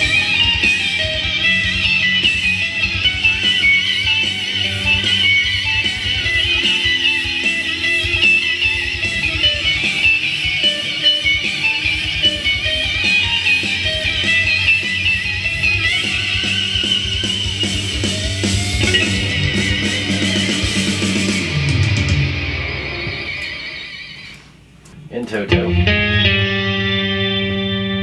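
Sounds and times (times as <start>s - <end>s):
bass guitar: 0.0s - 23.4s, 25.0s - 28.0s
electric guitar lead melody: 0.0s - 23.5s, 25.3s - 28.0s
rock drums: 0.0s - 28.0s.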